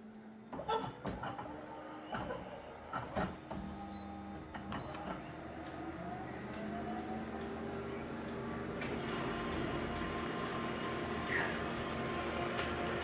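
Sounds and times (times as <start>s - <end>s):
photocopier motor hum with whine: 0.0s - 13.0s.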